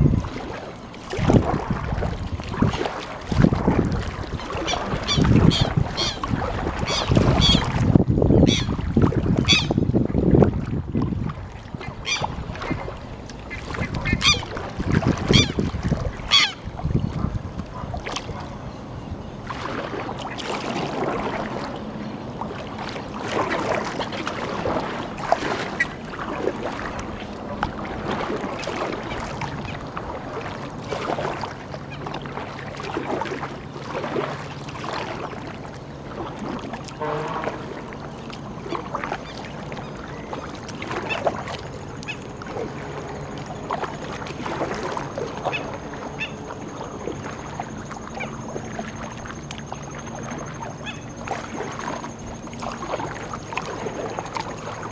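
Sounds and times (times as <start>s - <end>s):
paddle splashing in water: 0.0s - 18.6s, 19.4s - 54.9s.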